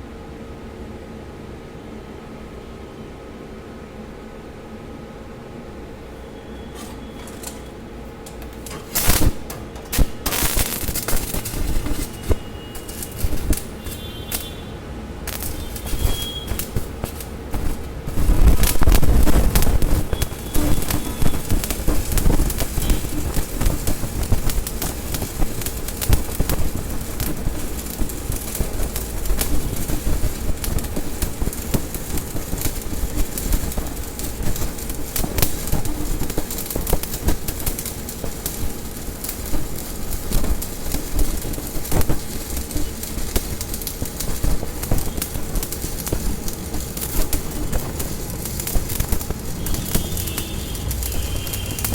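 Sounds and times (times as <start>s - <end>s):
faint steady hum: 0.0s - 51.8s
arc welding crackle: 6.0s - 51.9s.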